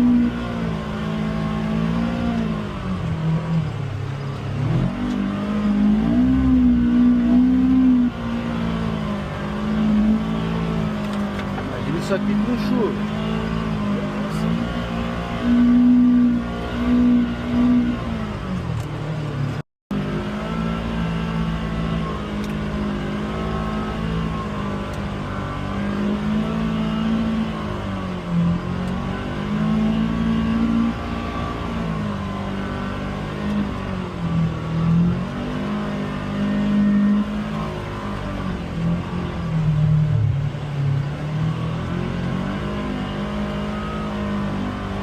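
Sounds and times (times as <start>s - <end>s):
vehicle engine revving: 0.0s - 45.0s.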